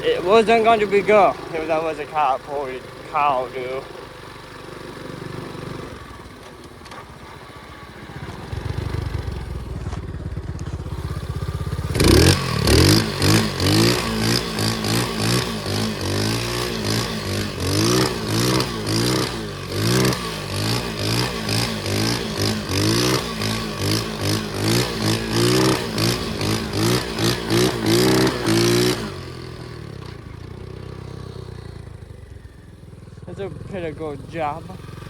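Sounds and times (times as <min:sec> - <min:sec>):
pit bike engine revving: 0:00.0 - 0:35.0.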